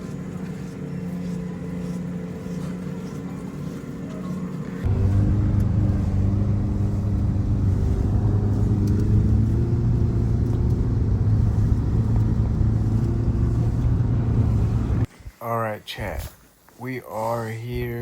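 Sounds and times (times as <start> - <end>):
vehicle engine drone: 0.0 - 15.1.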